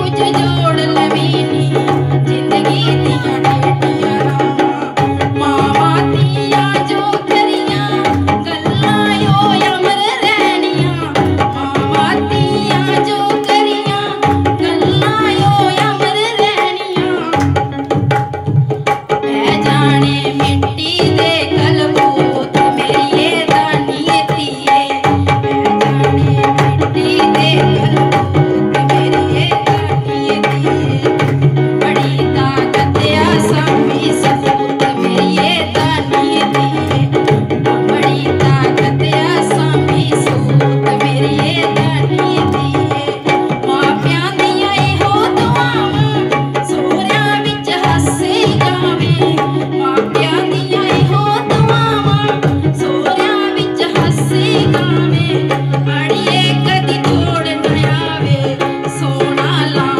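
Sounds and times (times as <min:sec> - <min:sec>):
woman singing through speaker: 0:00.0 - 0:17.8, 0:19.2 - 0:59.9
hand drum beat: 0:00.0 - 0:59.9.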